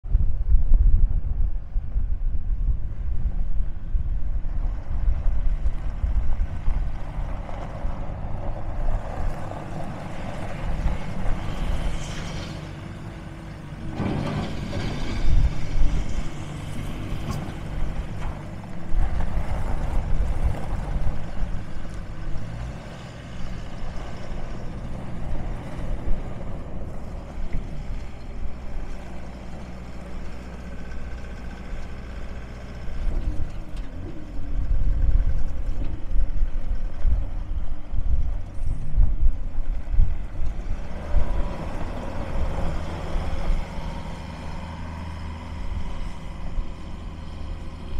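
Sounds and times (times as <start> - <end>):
diesel engine running under load: 0.1 - 47.9.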